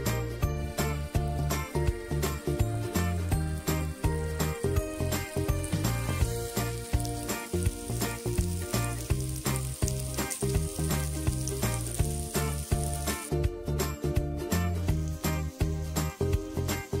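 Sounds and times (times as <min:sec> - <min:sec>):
background music with steady beat: 0:00.0 - 0:17.0
pork sizzling on a griddle: 0:00.0 - 0:17.0.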